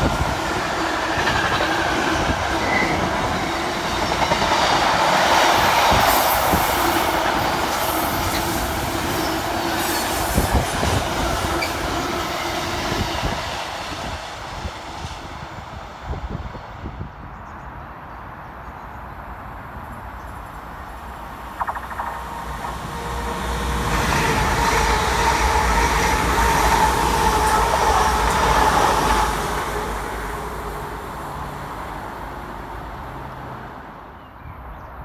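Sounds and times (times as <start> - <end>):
electric train passing: 0.0 - 17.0, 19.5 - 34.1.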